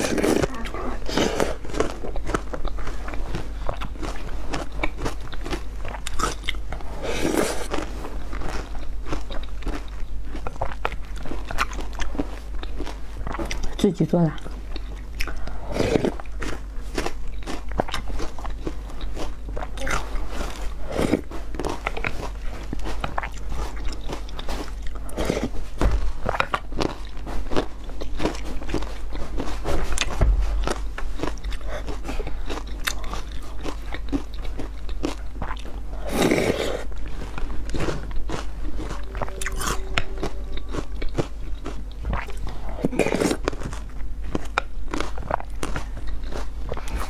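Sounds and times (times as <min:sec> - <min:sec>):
crunchy granola chewing: 0:00.0 - 0:47.0.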